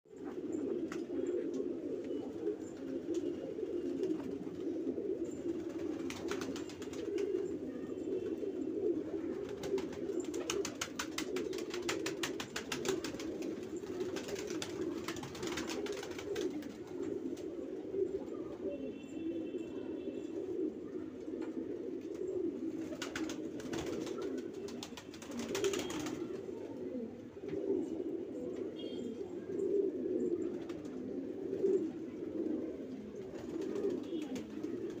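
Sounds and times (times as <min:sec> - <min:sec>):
pigeons cooing: 0:00.1 - 0:35.0.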